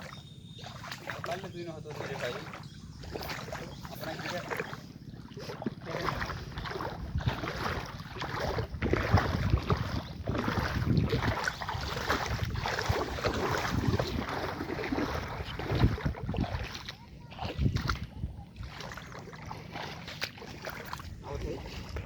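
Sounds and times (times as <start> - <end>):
wind buffeting the microphone: 1.2 - 22.0.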